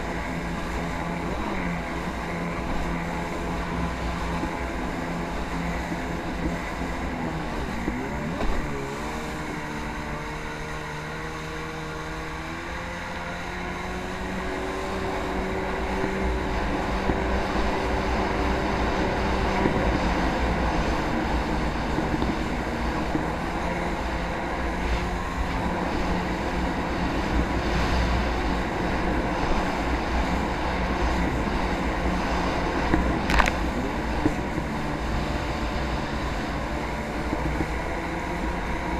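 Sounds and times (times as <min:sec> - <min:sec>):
jet ski engine: 0:00.0 - 0:38.9.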